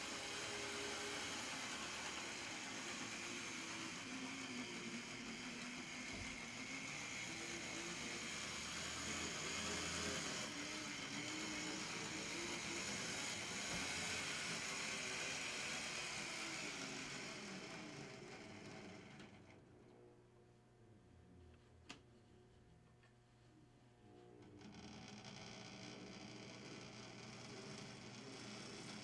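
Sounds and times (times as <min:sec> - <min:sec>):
model locomotive motor whirring: 0:00.0 - 0:19.6, 0:24.6 - 0:29.0.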